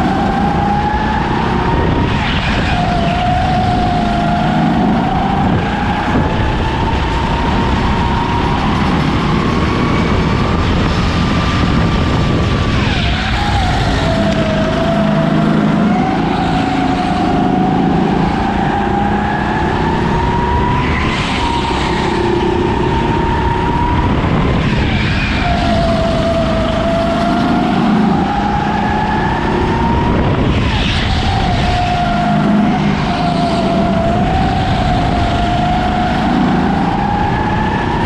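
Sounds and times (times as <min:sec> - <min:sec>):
racing kart engine revving: 0:00.0 - 0:38.0.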